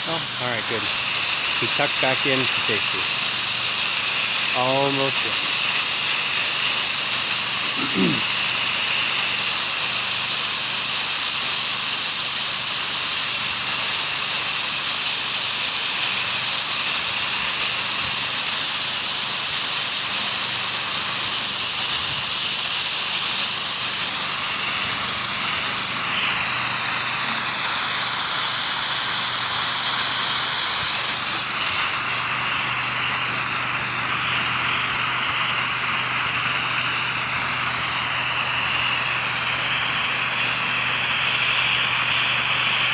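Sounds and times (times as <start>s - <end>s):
pressure washer engine hum: 0.0s - 11.8s, 17.8s - 42.9s
pressure washer jet hissing: 0.0s - 42.9s.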